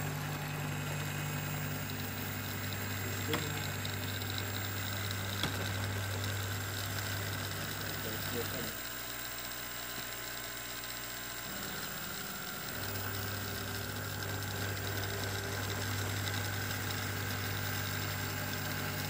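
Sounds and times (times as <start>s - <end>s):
ball launcher motors humming: 0.0s - 19.0s.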